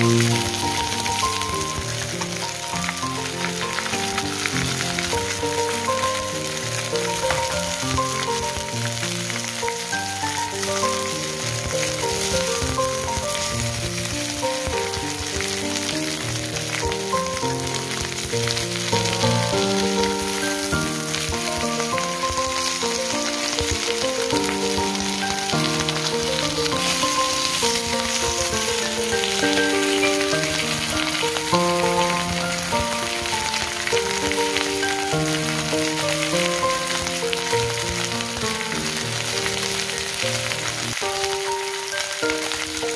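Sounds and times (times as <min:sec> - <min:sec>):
fish sizzling in frying pan: 0:00.0 - 0:42.9
gentle background music: 0:00.0 - 0:42.9.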